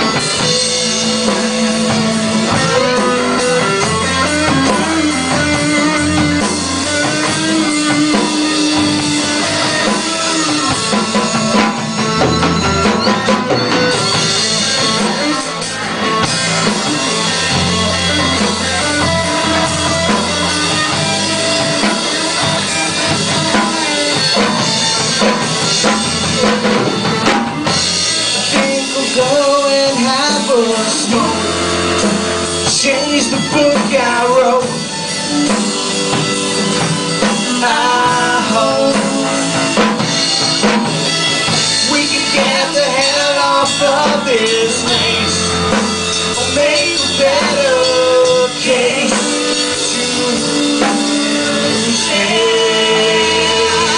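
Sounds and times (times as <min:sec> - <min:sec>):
bass guitar: 0:00.0 - 0:53.9
drum kit: 0:00.0 - 0:53.9
electric guitar: 0:00.0 - 0:53.9.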